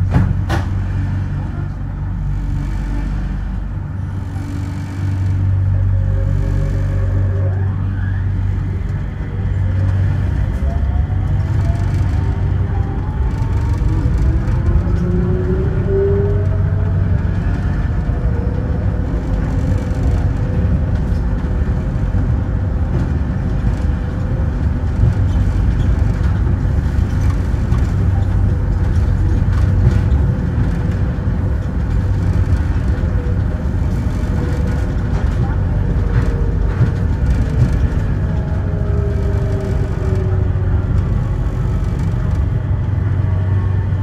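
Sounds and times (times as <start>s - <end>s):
rumble of tyres on guideway: 0.0s - 44.0s.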